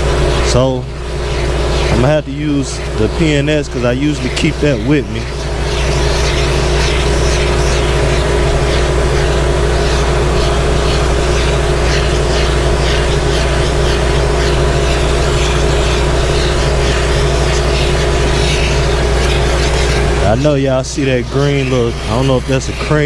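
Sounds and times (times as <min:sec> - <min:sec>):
vacuum wand hissing: 0:00.0 - 0:23.0
wet vacuum motor humming: 0:00.0 - 0:23.0.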